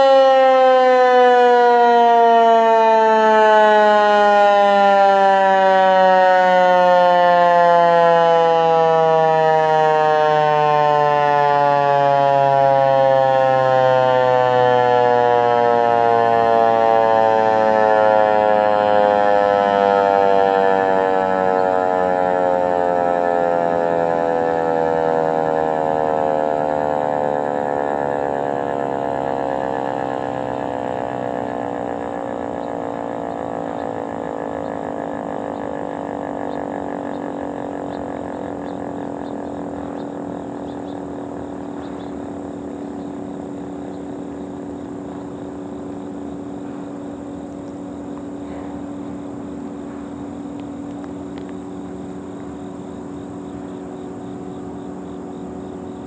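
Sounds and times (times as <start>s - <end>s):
constant hiss: 0.0s - 56.0s
low drone: 0.0s - 56.0s
warning siren winding down: 0.0s - 56.0s.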